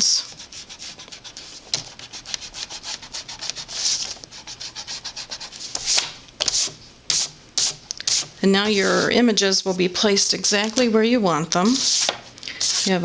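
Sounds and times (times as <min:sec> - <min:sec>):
eraser rubbing on cardstock: 0:00.0 - 0:09.1, 0:11.6 - 0:13.0.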